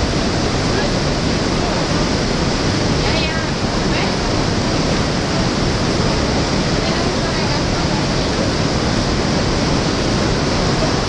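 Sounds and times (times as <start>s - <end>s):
water rushing and churning: 0.0s - 11.0s.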